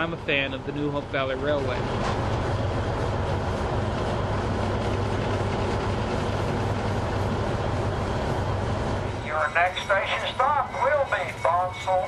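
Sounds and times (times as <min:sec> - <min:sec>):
constant hum: 0:00.0 - 0:12.0
train rumble: 0:00.0 - 0:12.0.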